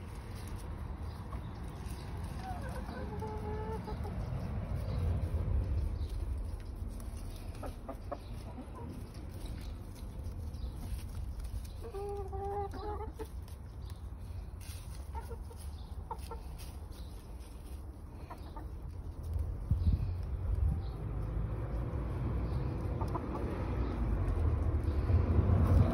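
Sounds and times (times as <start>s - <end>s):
hens clucking: 0.0s - 25.9s.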